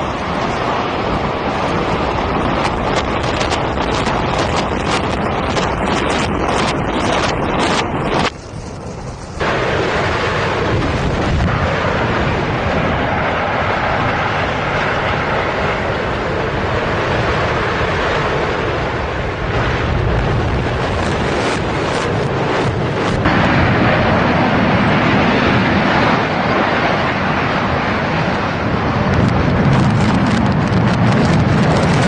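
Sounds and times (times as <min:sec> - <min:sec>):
demolition collapse rumbling roar: 0:00.0 - 0:32.0
wind buffeting microphone: 0:00.0 - 0:32.0.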